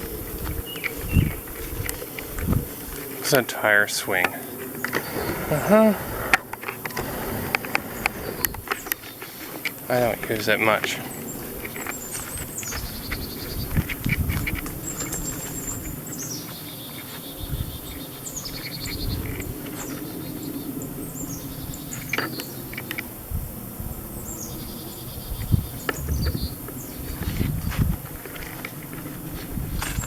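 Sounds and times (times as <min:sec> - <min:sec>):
footsteps on woodland path: 0:00.0 - 0:23.2, 0:25.3 - 0:30.0.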